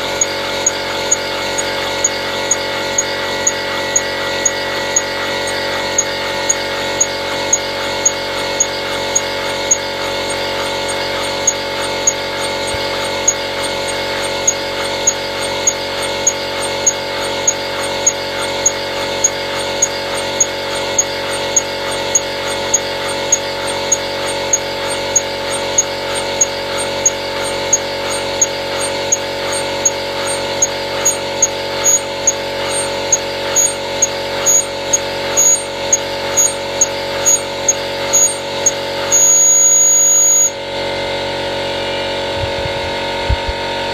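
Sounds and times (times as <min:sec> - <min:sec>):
model steam engine beating: 0:00.0 - 0:40.4.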